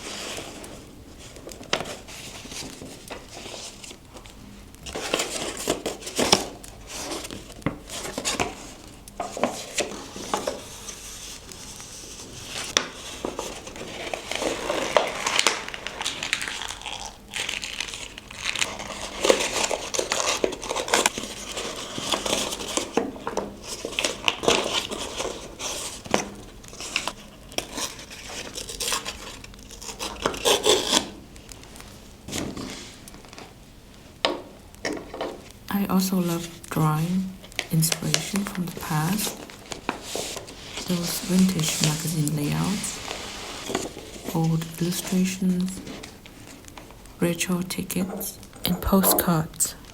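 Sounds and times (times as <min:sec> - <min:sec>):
paper rustling and crinkling: 0:00.0 - 0:47.2.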